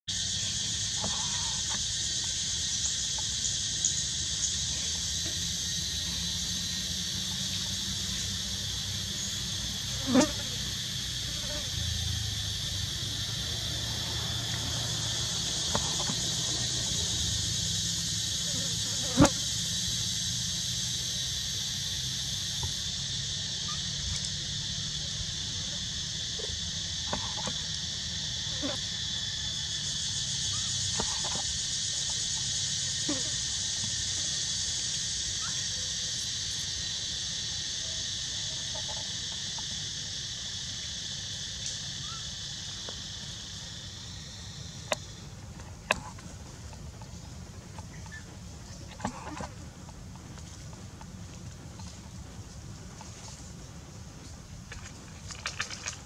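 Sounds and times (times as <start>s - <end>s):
insects chirping chorus: 0.0s - 56.0s.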